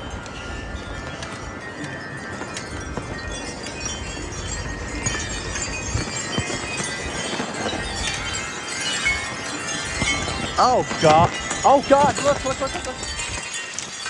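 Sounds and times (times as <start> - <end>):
wind chimes ringing: 0.0 - 14.0
wind rumble on microphone: 0.0 - 14.0.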